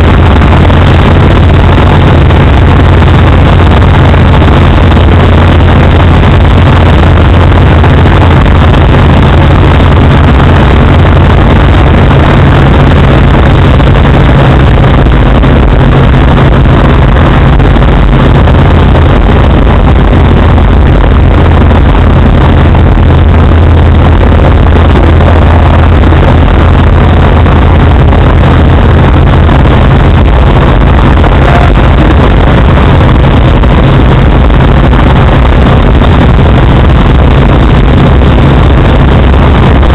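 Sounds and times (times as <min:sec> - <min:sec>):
aircraft engine drone: 0:00.0 - 0:39.9
rushing air: 0:00.0 - 0:39.9.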